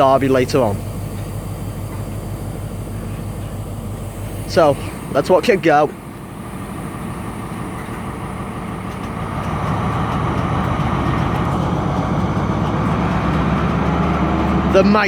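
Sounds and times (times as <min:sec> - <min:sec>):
diesel locomotive engine roaring: 0:00.0 - 0:15.0.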